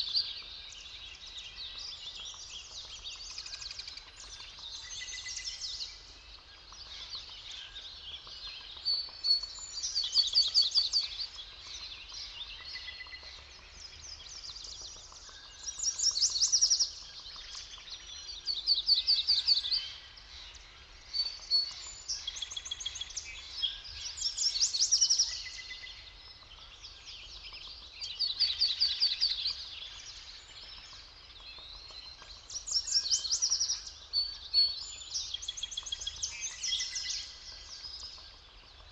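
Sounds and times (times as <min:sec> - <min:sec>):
quiet bird chirps: 0:00.0 - 0:38.9.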